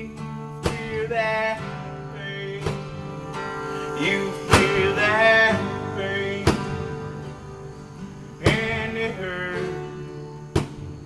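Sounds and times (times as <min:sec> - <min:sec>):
person singing: 0:00.0 - 0:07.5, 0:08.2 - 0:10.1
acoustic guitar strummed: 0:00.0 - 0:11.0.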